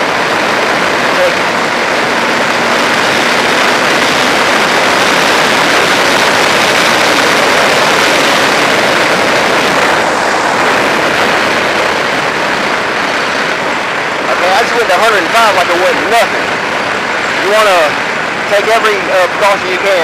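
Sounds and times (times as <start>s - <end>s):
wind rush over microphone: 0.0s - 20.0s.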